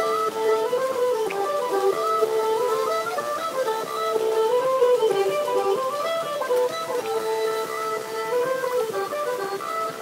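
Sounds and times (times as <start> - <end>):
plucked guitar melody: 0.0 - 10.0.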